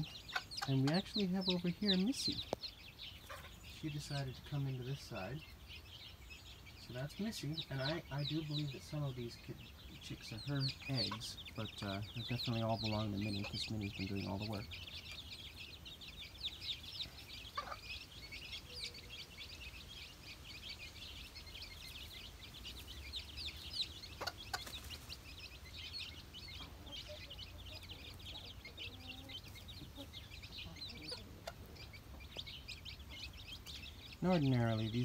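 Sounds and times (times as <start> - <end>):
chicks peeping: 0.0 - 35.0
hen clucking: 0.0 - 35.0.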